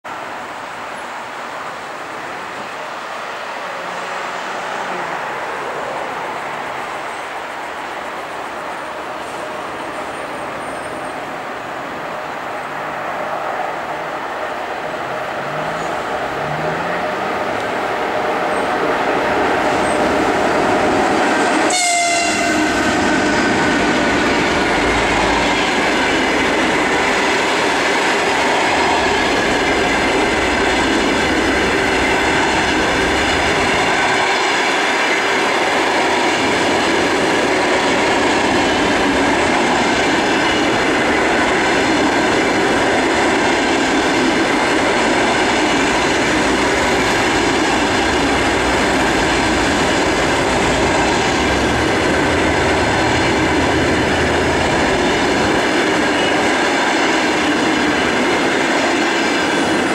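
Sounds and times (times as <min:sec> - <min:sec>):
train wheels on rail: 0:00.0 - 0:59.9
locomotive whining tones: 0:00.4 - 0:59.9.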